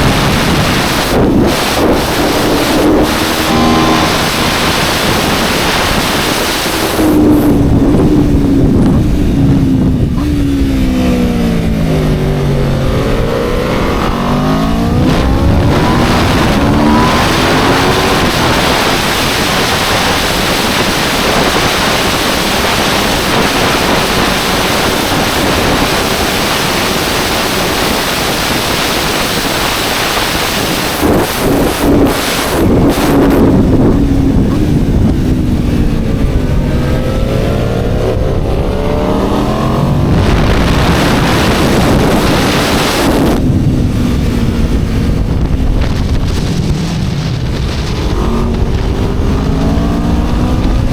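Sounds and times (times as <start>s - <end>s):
motorcycle engine revving: 0.0s - 50.9s
wind rushing over microphone: 0.0s - 50.9s.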